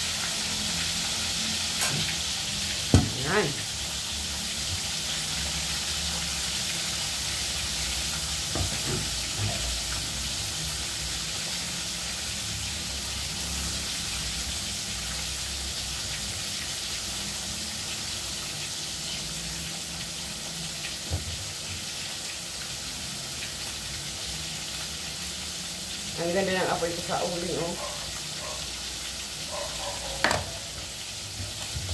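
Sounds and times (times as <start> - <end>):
oil sizzling in a wok: 0.0 - 31.9.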